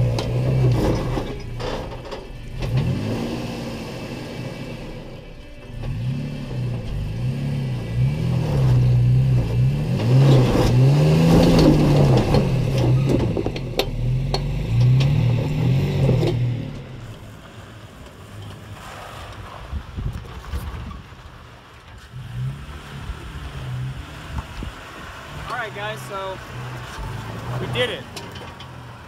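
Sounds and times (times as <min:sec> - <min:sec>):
truck engine revving: 0:00.0 - 0:29.0.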